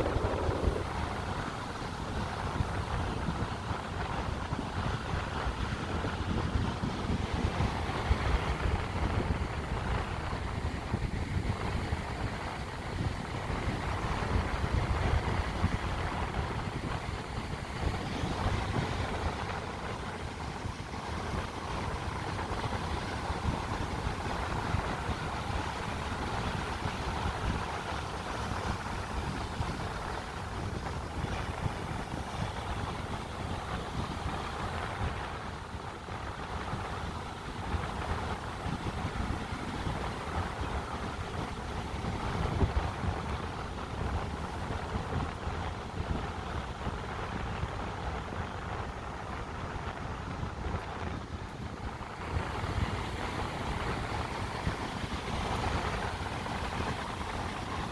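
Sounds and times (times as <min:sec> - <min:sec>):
sea surf: 0:00.0 - 0:57.9
wind buffeting microphone: 0:00.0 - 0:57.9.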